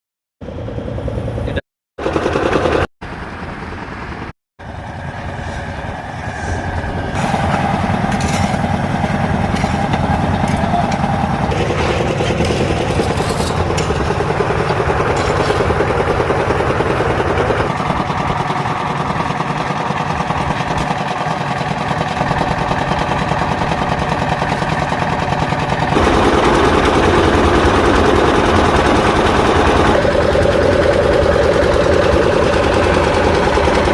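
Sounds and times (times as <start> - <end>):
road-building machinery engines running: 0.4 - 33.9.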